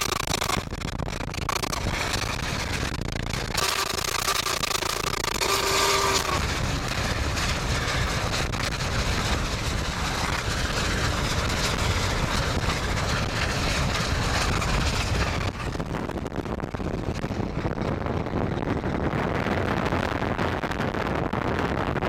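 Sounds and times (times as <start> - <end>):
rushing noise of moving train: 0.0 - 22.0.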